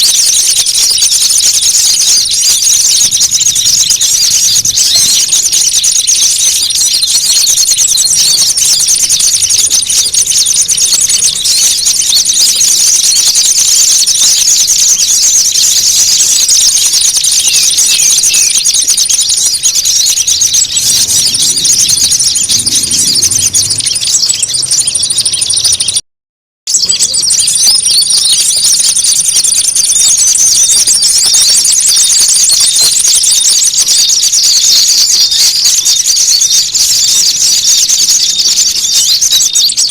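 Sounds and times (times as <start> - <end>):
small songbirds chirping and trilling: 0.0 - 26.0, 26.7 - 39.9.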